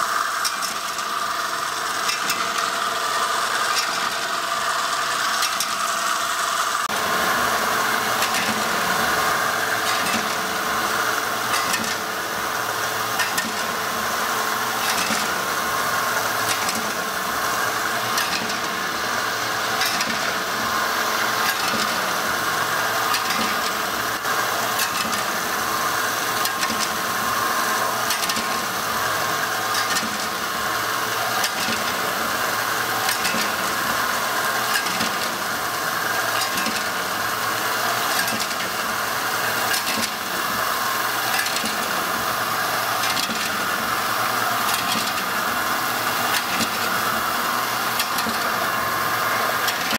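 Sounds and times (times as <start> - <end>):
packaging machine hum: 0.0 - 49.9.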